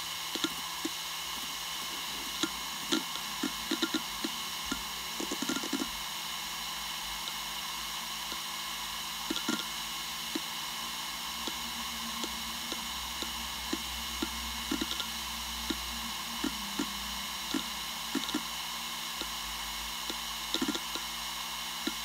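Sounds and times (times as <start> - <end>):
hard drive heads ticking: 0.0 - 22.0
hard drive whirring: 0.0 - 22.0.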